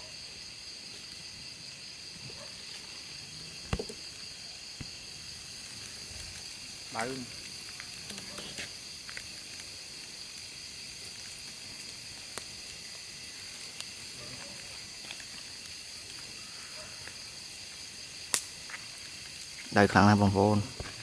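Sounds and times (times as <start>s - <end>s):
night insects chirring: 0.0s - 21.0s
campfire crackling and popping: 0.3s - 21.0s.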